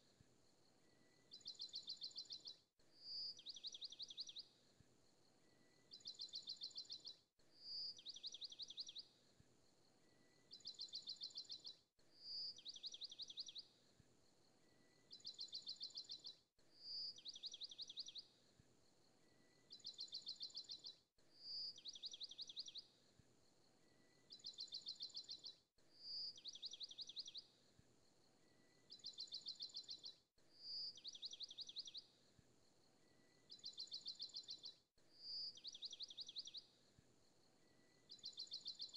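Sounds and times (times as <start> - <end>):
recorded bird chirps and trills: 0.7 - 9.2, 9.8 - 38.9.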